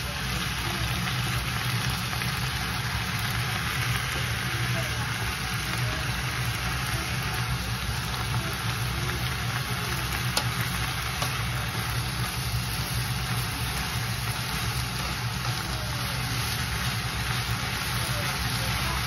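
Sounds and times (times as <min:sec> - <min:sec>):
constant low hum: 0:00.0 - 0:19.0
noodles sizzling in a pan: 0:00.0 - 0:19.0.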